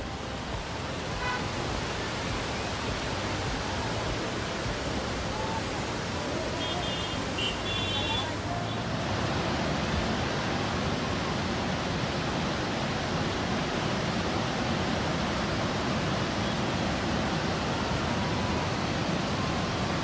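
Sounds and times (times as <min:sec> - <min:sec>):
water rushing through spillway: 0:00.0 - 0:20.0.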